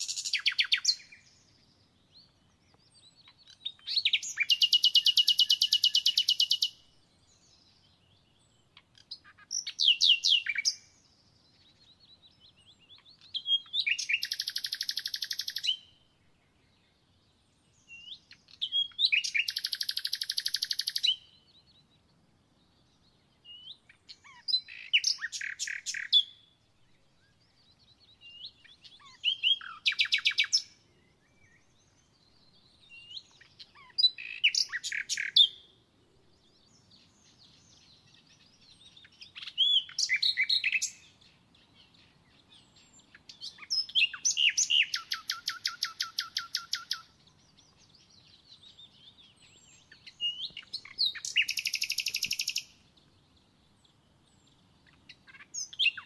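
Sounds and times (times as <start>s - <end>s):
songbird trilling song: 0.0s - 56.0s.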